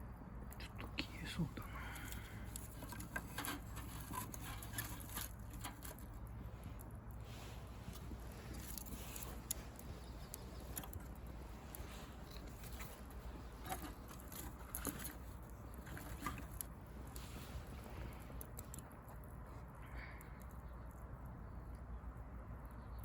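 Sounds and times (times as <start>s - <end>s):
wood fire crackling: 1.2s - 22.7s.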